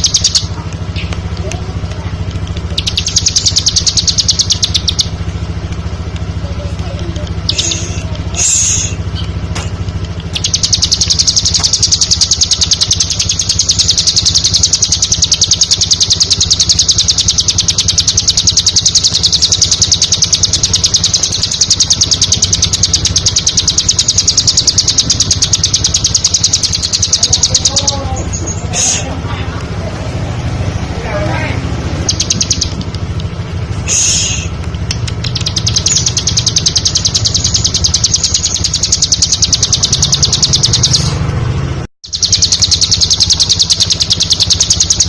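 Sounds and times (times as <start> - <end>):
bird chirping and trilling: 0.0 - 1.9, 2.6 - 5.6, 6.4 - 29.2, 30.8 - 41.3, 42.0 - 45.0
steady low hum: 0.0 - 45.0.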